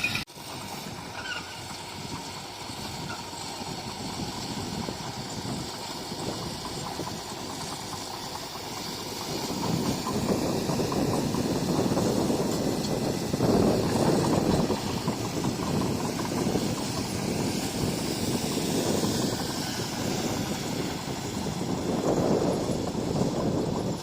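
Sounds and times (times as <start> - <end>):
bulldozer diesel engine: 0.0 - 24.0.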